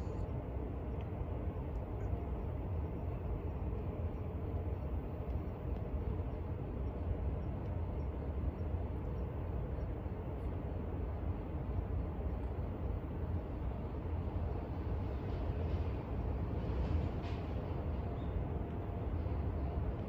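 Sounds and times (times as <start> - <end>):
low outdoor background rumble: 0.0 - 20.0.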